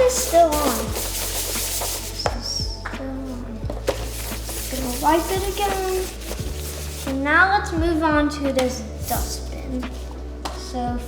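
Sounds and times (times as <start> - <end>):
background music with low drone: 0.0 - 11.0.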